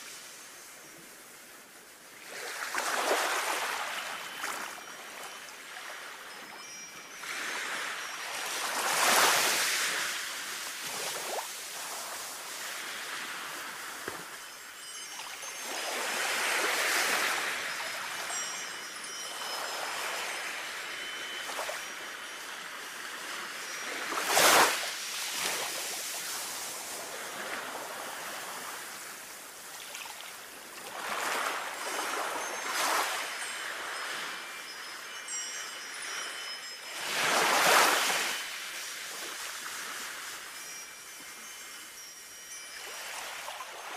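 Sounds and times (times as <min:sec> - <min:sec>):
wind chime tinkling: 0:00.0 - 0:02.2, 0:03.0 - 0:27.4, 0:28.2 - 0:43.9.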